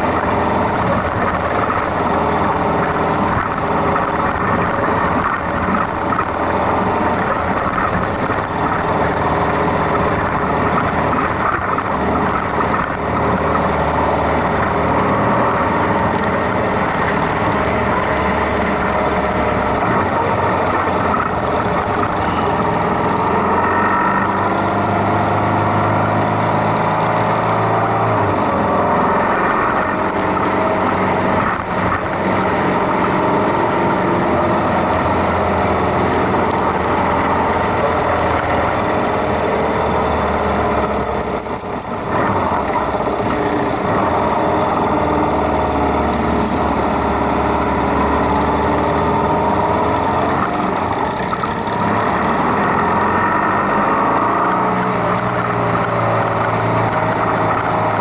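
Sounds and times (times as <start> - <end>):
motorcycle engines rumbling: 0.0 - 58.0.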